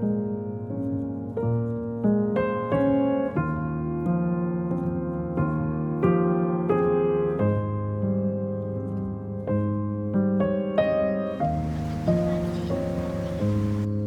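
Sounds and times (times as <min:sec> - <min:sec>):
soft piano piece: 0:00.0 - 0:14.0.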